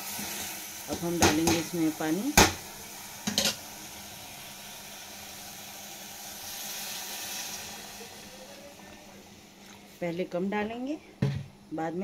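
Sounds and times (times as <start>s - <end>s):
hot pan hissing: 0.0s - 10.0s.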